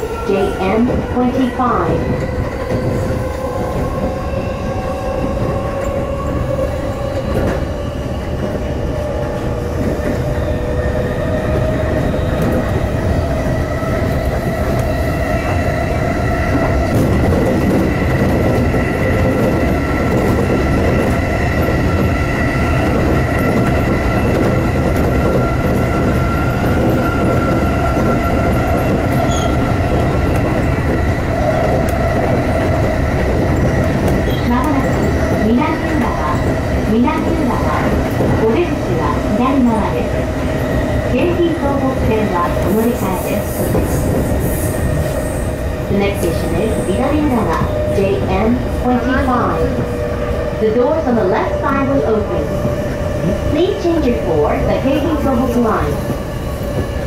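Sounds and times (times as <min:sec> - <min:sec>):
high train whine: 0:00.0 - 0:57.0
train wheels rumbling on rails: 0:00.0 - 0:57.0.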